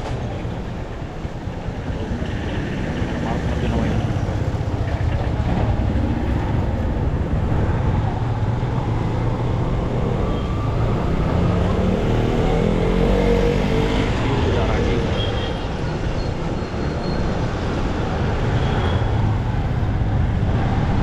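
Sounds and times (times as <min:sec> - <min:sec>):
road and traffic noise: 0:00.0 - 0:21.0.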